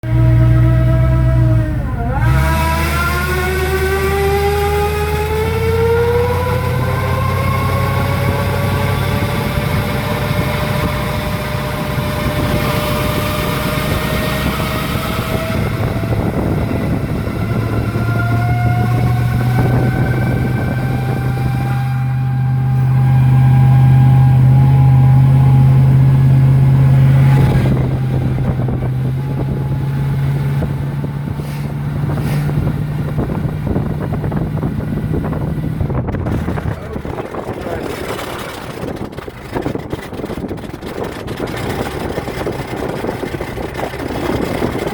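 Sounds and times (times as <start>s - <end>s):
low drone: 0.0s - 44.9s
transmission whine: 0.0s - 44.9s.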